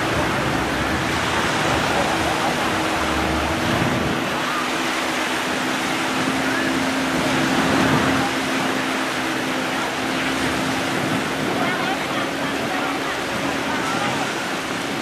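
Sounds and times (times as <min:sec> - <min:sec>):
sea surf: 0:00.0 - 0:15.0
speedboat engine humming: 0:00.0 - 0:15.0
wind on microphone: 0:00.0 - 0:15.0.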